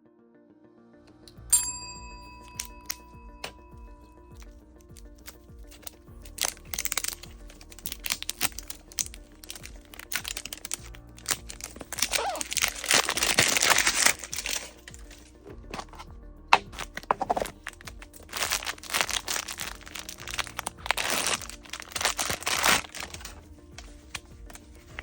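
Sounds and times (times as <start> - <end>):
quiet background music: 0.0 - 25.0
plastic wrapper crinkling: 4.3 - 25.0.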